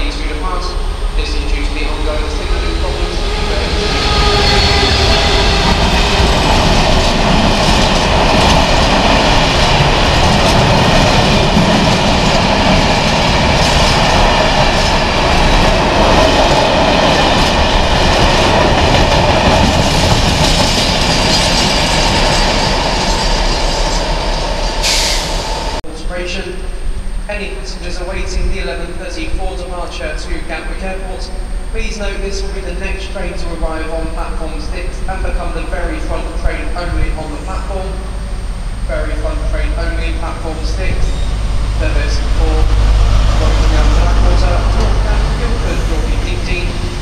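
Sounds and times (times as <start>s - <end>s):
train wheels rumbling and clattering: 0.0s - 25.8s, 27.4s - 47.0s
diesel locomotive engine: 0.0s - 47.0s.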